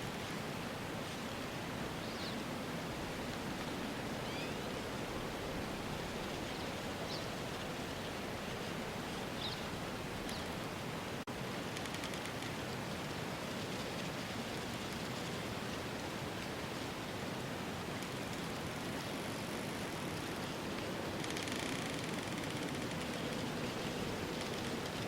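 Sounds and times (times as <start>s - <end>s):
rushing outdoor ambience: 0.0s - 25.0s.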